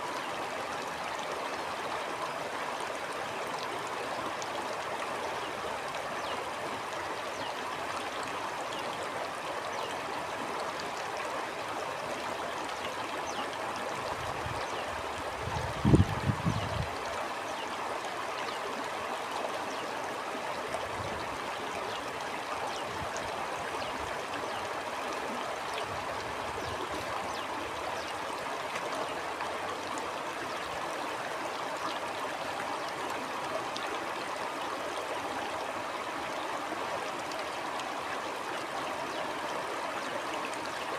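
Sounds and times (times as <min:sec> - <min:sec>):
stream water gurgling: 0:00.0 - 0:40.9.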